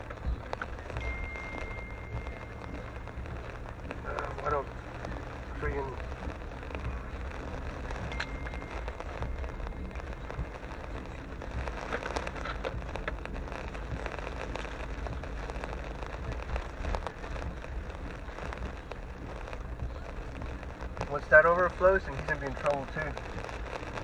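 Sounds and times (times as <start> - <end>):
car low hum: 0.0 - 24.0
rain on car windshield and roof: 0.0 - 24.0
tyre noise on wet road: 0.0 - 24.0.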